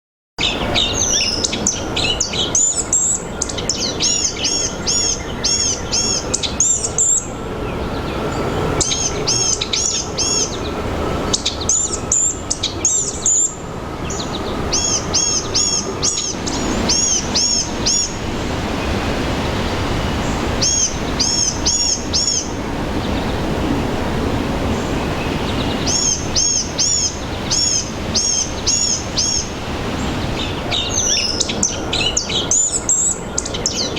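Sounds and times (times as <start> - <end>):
steady background noise: 0.4 - 33.9.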